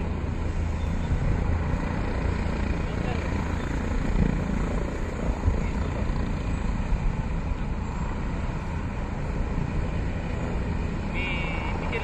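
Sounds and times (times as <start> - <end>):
helicopter rotor and engines: 0.0 - 12.0.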